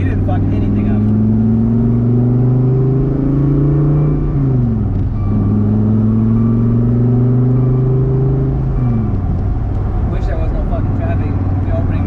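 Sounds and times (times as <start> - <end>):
car engine drone from inside cabin: 0.0 - 12.0.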